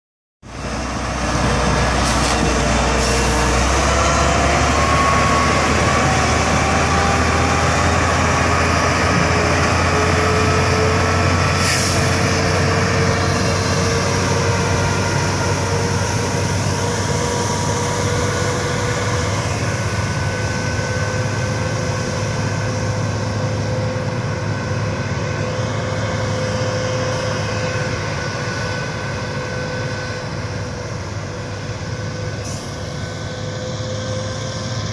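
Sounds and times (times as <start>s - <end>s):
diesel truck engine running: 0.5s - 34.9s.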